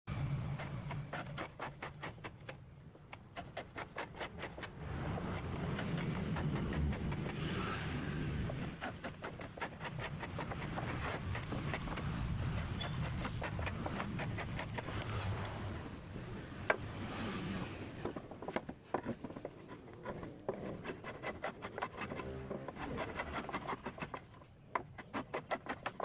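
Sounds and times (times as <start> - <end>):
hand scraping wood: 0.3 - 26.0.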